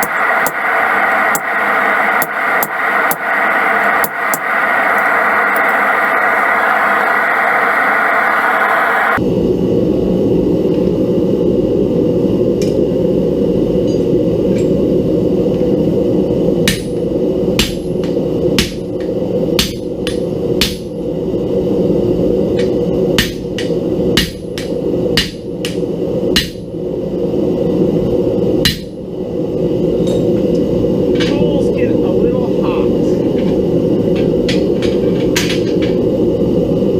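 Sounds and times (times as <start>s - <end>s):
gas forge burner roaring: 0.0s - 36.9s.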